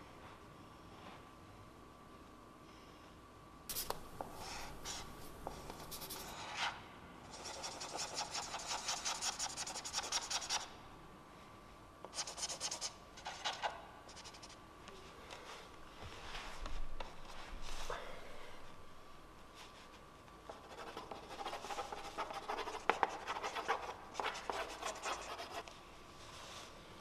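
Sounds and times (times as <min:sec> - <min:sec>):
faint high hum: 0:00.0 - 0:27.0.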